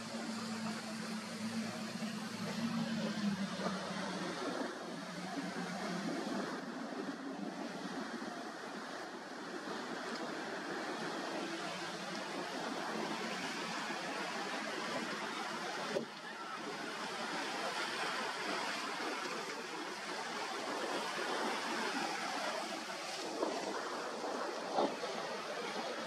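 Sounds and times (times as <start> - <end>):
choppy water rushing: 0.0 - 26.0.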